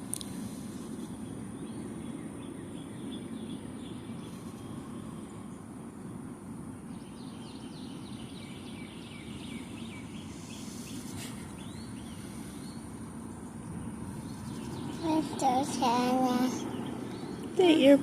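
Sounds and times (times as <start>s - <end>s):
low outdoor background noise: 0.0s - 18.0s.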